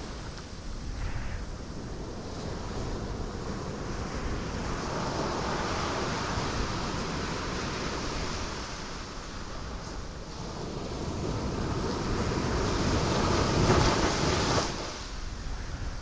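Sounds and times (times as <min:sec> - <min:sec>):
ocean waves breaking on rocks: 0:01.7 - 0:15.4.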